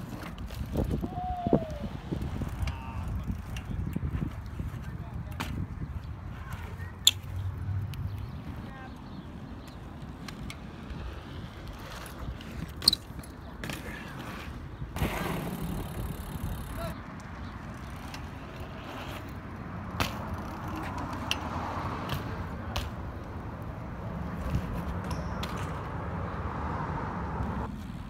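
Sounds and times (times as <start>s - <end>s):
bike clacking on concrete: 0.0s - 8.9s, 9.5s - 23.4s, 24.3s - 26.0s
bike tyres rolling on concrete: 0.0s - 28.0s.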